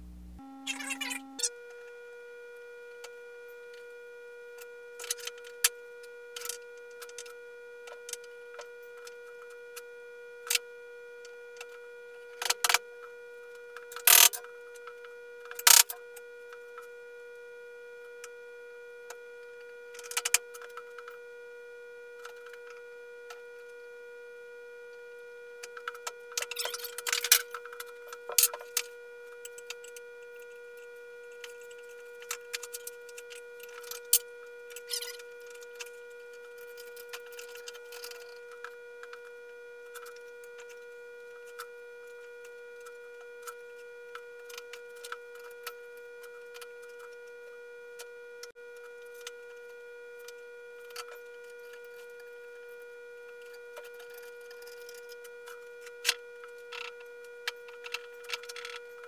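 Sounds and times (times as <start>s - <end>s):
steady high-pitched hum: 0.0s - 59.0s.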